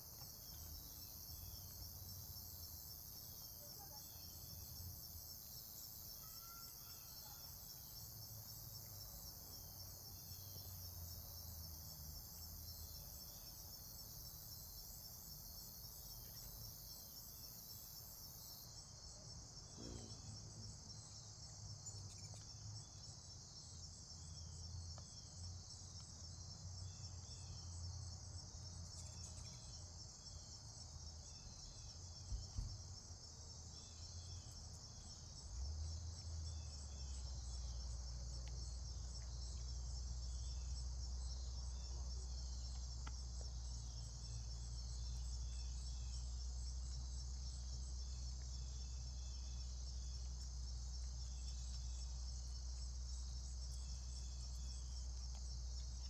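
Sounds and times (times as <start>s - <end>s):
insects trilling: 0.0s - 26.4s, 27.3s - 56.0s.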